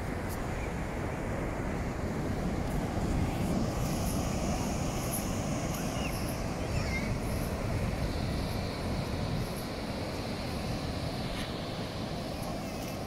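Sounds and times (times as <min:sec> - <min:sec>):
ocean surf rumble: 0:00.0 - 0:13.0
wind on microphone: 0:00.0 - 0:13.0.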